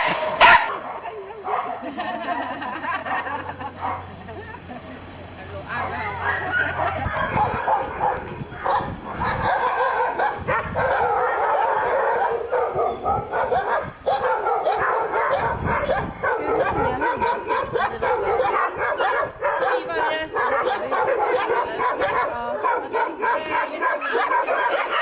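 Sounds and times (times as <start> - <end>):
many dogs barking: 0.0 - 4.2, 5.7 - 25.0.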